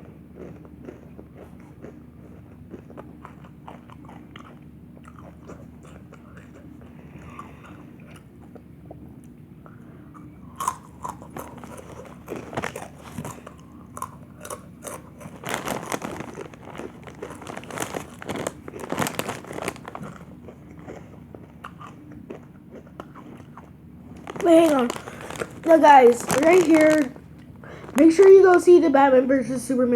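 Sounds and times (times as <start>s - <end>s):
person crunching chips: 0.4s - 8.3s, 10.2s - 28.8s.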